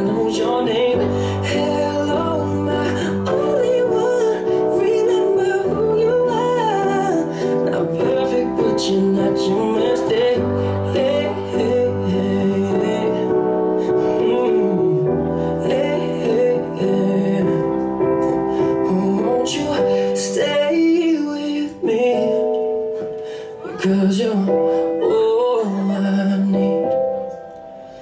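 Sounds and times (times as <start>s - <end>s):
keyboard chords: 0.0s - 28.0s
person singing: 0.0s - 28.0s.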